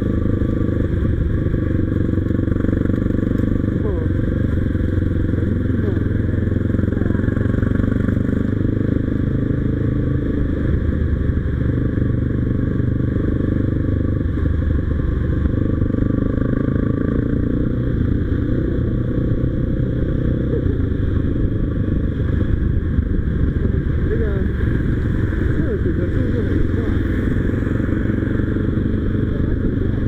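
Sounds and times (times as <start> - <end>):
motorcycle engine cruising: 0.0 - 30.0
road noise: 0.0 - 30.0.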